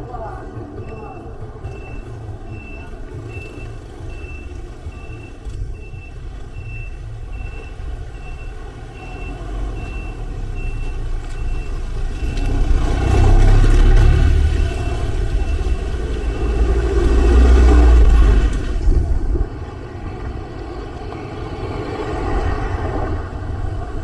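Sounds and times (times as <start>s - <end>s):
low rumble of vehicle engines: 0.0s - 24.0s
van engine approaching: 0.0s - 24.0s.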